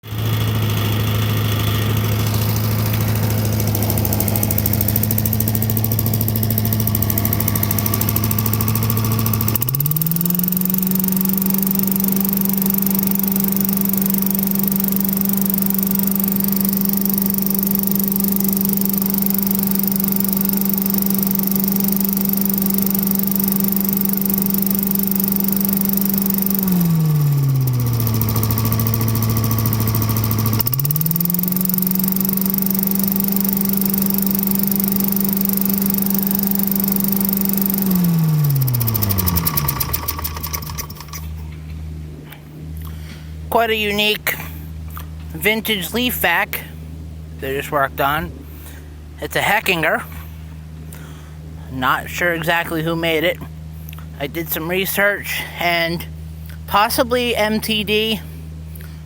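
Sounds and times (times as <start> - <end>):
leaf vacuum engine running: 0.0 - 59.0.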